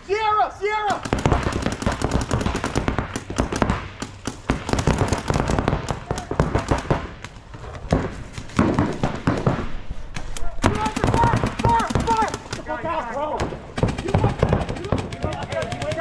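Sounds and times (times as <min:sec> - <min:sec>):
paintball guns firing: 0:00.8 - 0:16.0.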